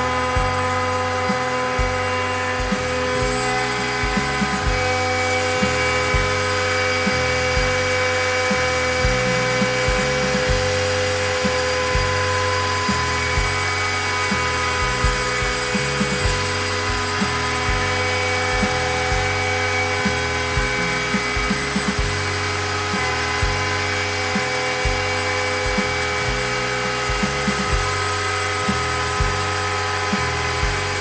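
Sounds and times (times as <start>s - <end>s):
low shifting machine tones: 0.0s - 31.0s
router spindle whine: 0.0s - 31.0s.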